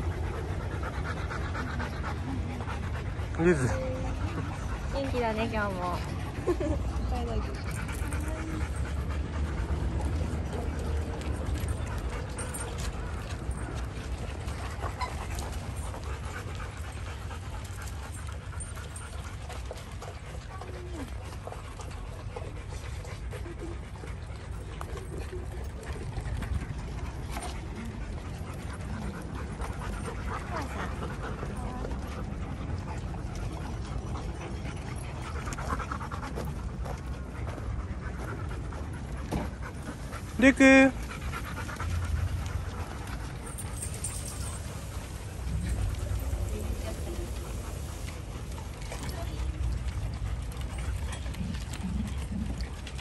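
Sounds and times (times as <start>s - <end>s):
dogs panting: 0.0s - 53.0s.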